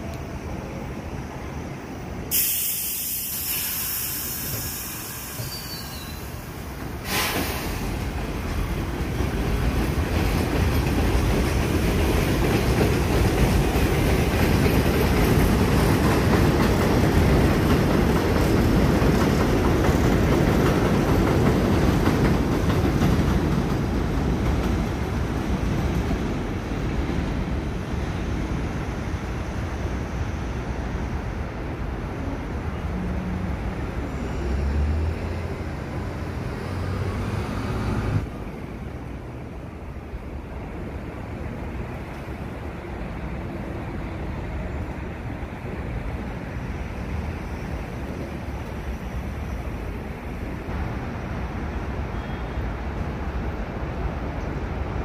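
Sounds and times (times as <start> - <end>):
subway train rumble and wheel clatter: 0.0 - 55.0.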